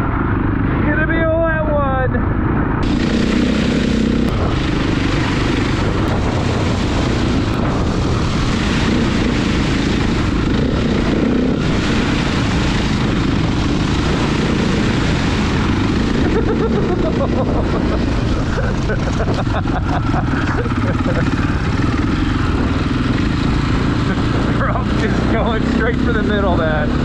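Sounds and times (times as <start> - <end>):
wind rush on microphone: 0.0 - 27.0
motorcycle engine running: 2.2 - 27.0
bike riding through puddles: 2.8 - 26.9.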